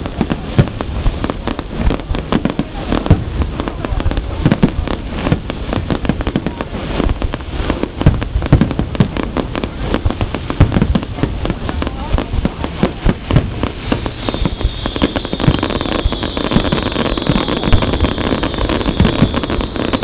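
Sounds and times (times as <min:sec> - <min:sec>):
fireworks bursts and crackling: 0:00.0 - 0:20.0
steady rumble: 0:00.0 - 0:20.0.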